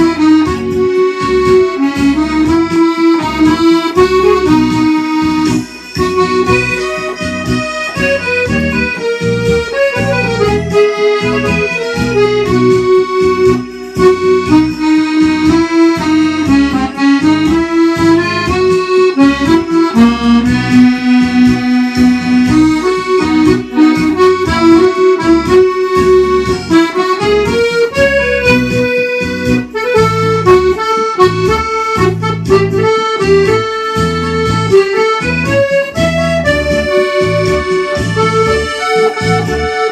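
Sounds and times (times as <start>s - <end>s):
accordion playing a waltz: 0.0s - 39.9s.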